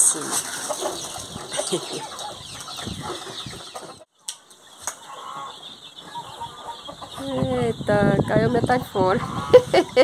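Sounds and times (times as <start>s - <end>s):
chicks peeping: 0.0s - 10.0s
hens clucking: 0.0s - 10.0s.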